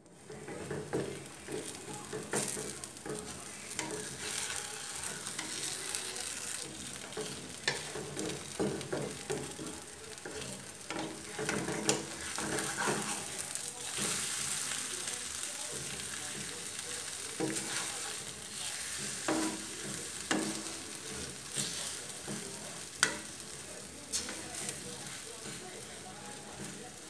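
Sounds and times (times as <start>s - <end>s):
pancake sizzling in oil: 0.0s - 27.0s
wooden spatula scraping a pan: 0.2s - 27.0s.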